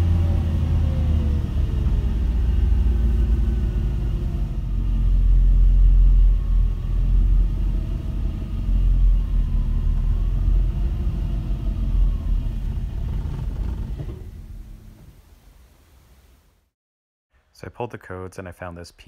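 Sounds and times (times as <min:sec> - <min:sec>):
car engine rumbling: 0:00.0 - 0:16.4.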